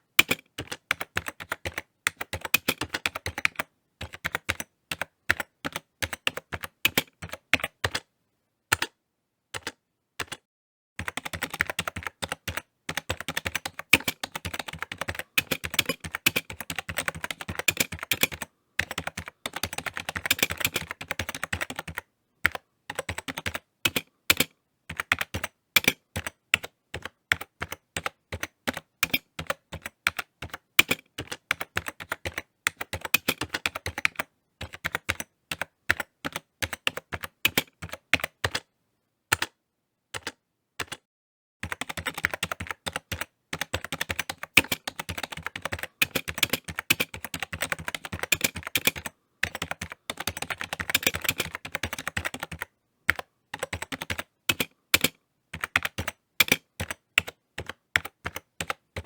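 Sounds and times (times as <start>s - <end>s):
typing on computer keyboard: 0.0s - 8.1s, 8.7s - 9.0s, 9.6s - 38.7s, 39.3s - 59.0s.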